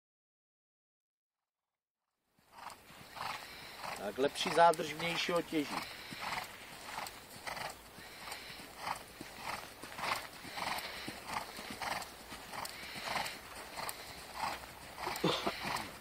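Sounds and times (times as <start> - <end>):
hoofbeats on sand: 2.4 - 16.0.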